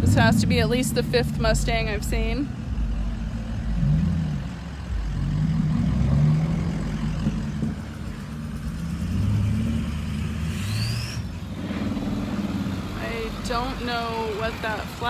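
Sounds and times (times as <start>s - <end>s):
cars and trucks driving past: 0.0s - 15.0s.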